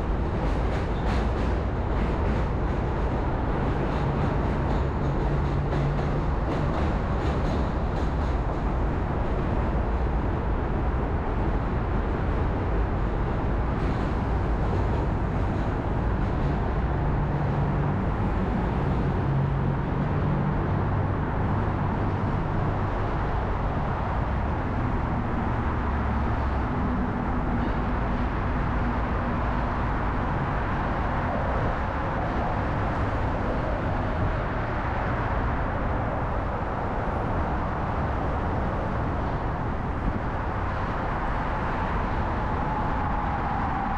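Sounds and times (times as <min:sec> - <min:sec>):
city road traffic rumble: 0:00.0 - 0:43.9
passing motor vehicles humming: 0:00.0 - 0:43.9.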